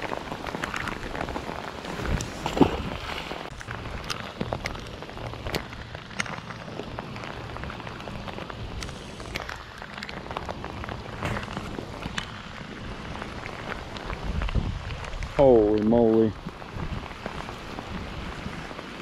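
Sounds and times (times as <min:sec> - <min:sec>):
rain falling on a pond: 0:00.0 - 0:19.0.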